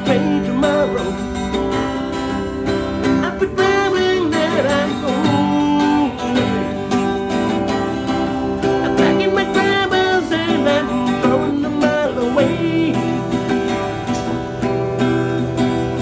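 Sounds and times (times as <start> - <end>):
acoustic guitar music with beat: 0.0 - 16.0.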